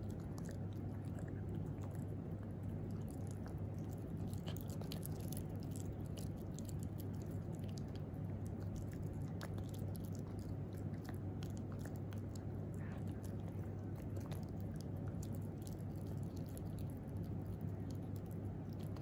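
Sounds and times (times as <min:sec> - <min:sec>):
puppy chewing with crunching clicks: 0:00.0 - 0:19.0
steady low hum: 0:00.0 - 0:19.0.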